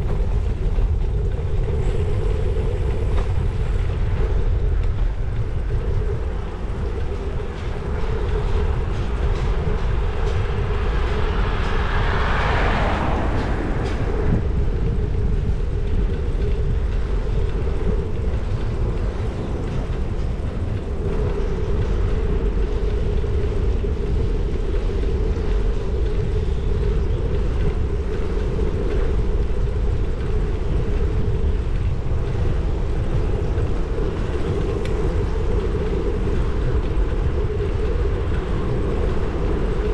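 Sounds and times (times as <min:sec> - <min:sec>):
bicycle tyre noise on wet road: 0:00.0 - 0:39.9
wind rumble on microphone: 0:00.0 - 0:39.9.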